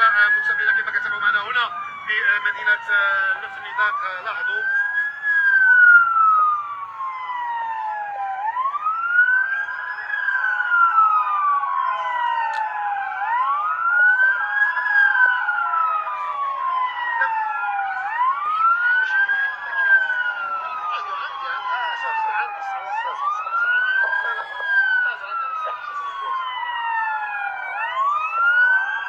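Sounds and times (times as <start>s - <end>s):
police siren wailing: 0.0s - 29.0s.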